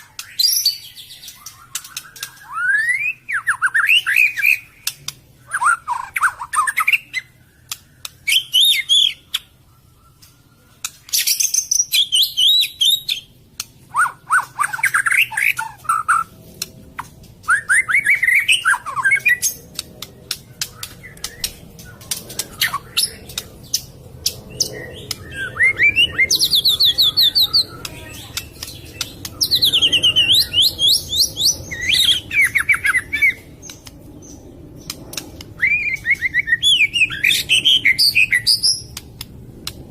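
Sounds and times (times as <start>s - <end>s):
bird singing whistles and trills: 0.0s - 13.3s, 13.9s - 16.3s, 17.4s - 39.0s.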